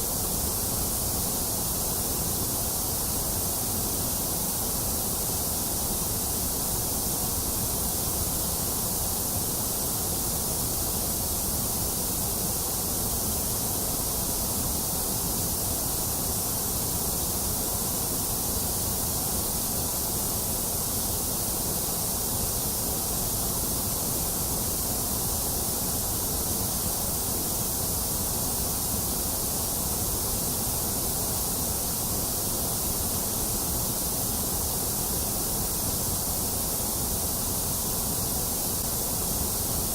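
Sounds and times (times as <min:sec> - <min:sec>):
steady white noise: 0:00.0 - 0:39.9.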